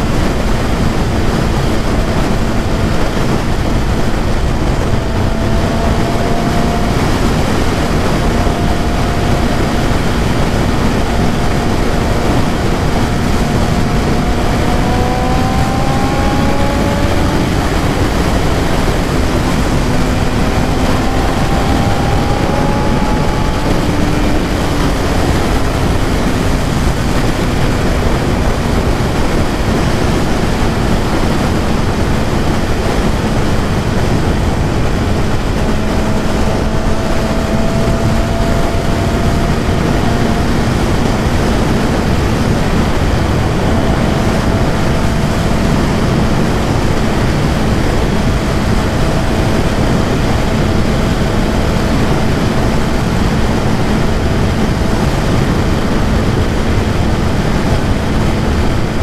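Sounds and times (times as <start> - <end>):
motorcycle engine steady tone: 0.0 - 59.0
wind rush on microphone: 0.0 - 59.0.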